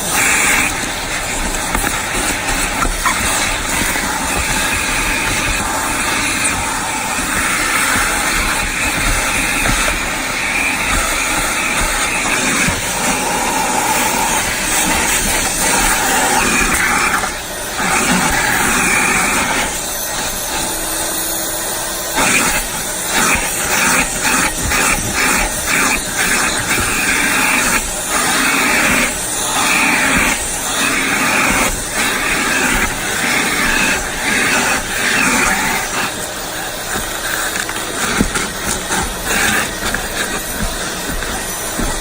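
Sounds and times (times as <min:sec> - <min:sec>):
vacuum hose sucking: 0:00.0 - 0:42.0.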